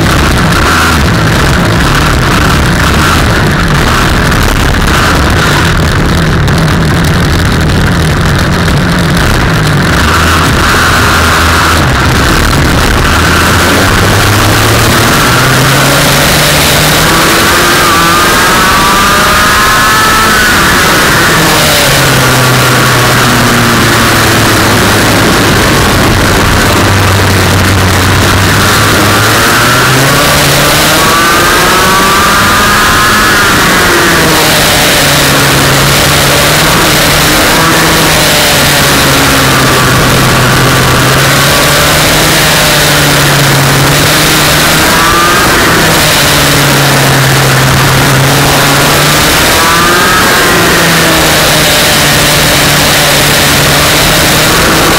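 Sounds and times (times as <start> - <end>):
dense rushing noise: 0.0 - 54.9
kart engine revving: 0.0 - 54.9
wind and road noise: 0.0 - 54.9.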